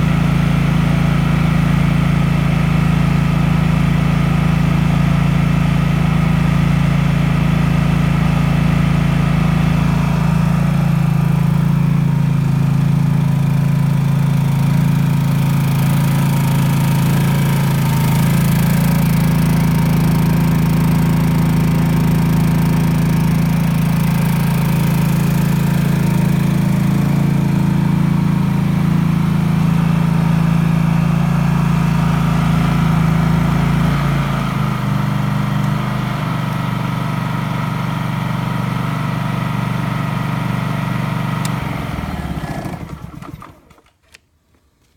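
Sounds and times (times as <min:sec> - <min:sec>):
generator engine humming: 0:00.0 - 0:43.9.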